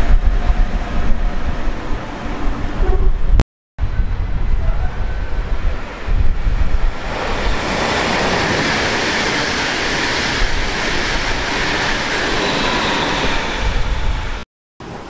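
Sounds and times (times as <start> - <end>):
train wheels roaring on rails: 0.0 - 15.0
wind rumbling on microphone: 0.0 - 15.0.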